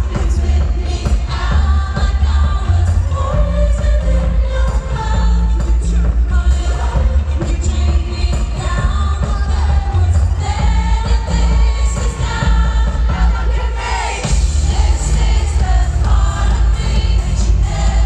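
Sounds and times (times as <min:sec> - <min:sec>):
pop band with heavy bass: 0:00.0 - 0:18.0
woman singing lead vocal: 0:00.0 - 0:18.0.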